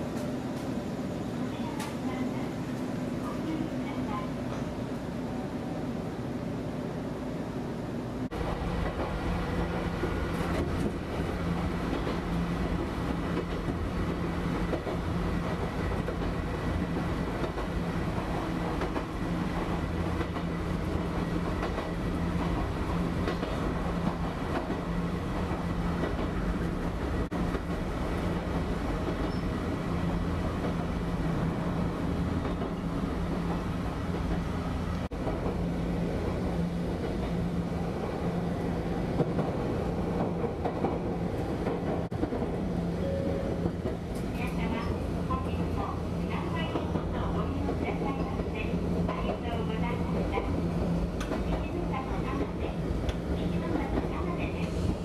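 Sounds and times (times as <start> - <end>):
electric train running rumble: 0.0 - 55.0.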